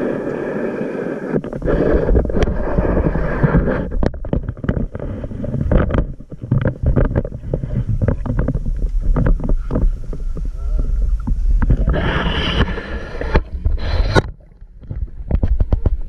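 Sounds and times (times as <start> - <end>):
underwater rumble of moving water: 0.0 - 16.0
underwater crackling clicks and pops: 1.3 - 10.5, 11.1 - 16.0.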